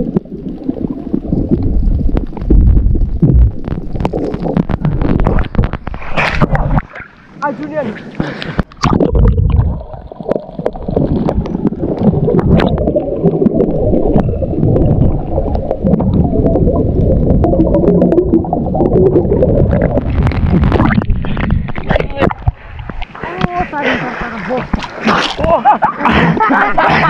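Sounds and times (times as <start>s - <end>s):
water gurgling and sloshing: 0.0s - 27.0s.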